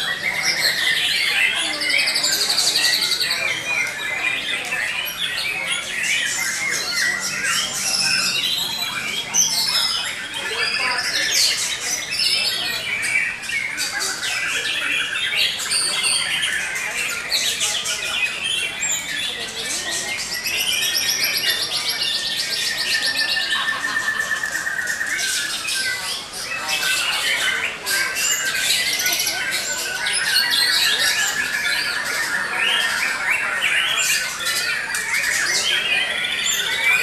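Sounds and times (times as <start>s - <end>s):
chorus of songbirds singing: 0.0s - 37.0s.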